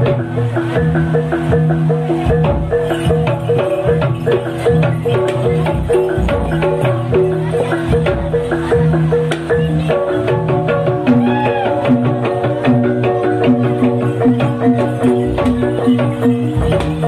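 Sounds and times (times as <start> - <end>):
drum strokes: 0.0 - 17.0
gamelan metal keys and gongs: 0.0 - 17.0.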